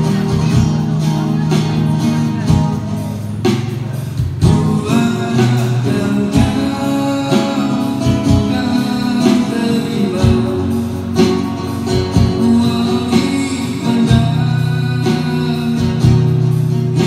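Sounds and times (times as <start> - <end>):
acoustic guitar strummed and picked: 0.0 - 17.0.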